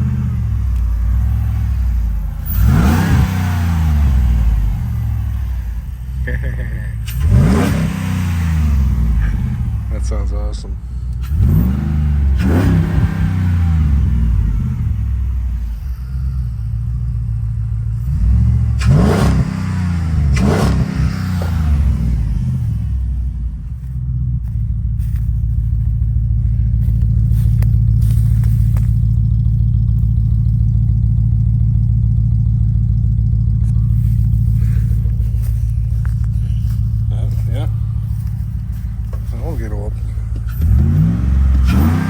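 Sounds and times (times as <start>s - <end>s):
vehicle engine revving and idling: 0.0s - 42.0s.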